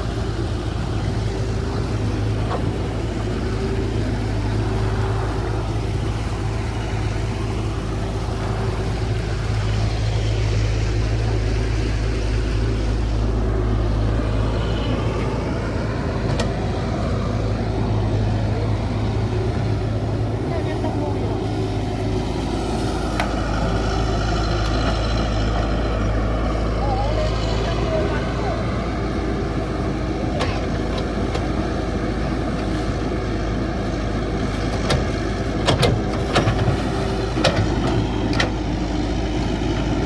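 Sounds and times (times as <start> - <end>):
diesel engine humming: 0.0 - 40.0.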